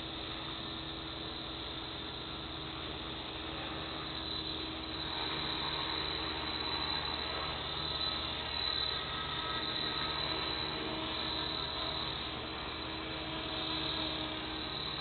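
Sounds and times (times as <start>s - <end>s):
electric motor whine: 0.0s - 15.0s
rotor blades buzzing: 0.0s - 15.0s.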